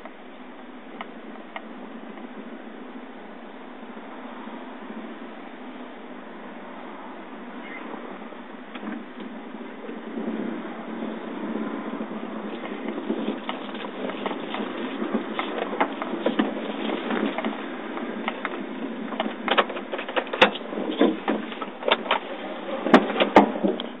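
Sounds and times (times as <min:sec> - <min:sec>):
car running hum: 0:00.0 - 0:24.0.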